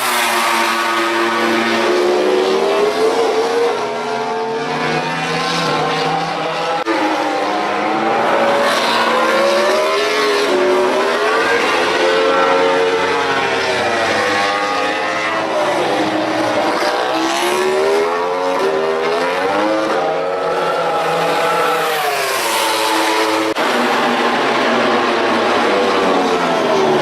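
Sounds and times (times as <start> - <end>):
racing motorcycle engines revving: 0.0 - 27.0.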